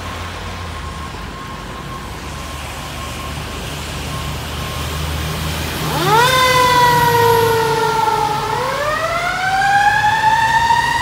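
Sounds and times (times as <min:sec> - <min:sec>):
fire engine siren wailing: 0:00.0 - 0:11.0.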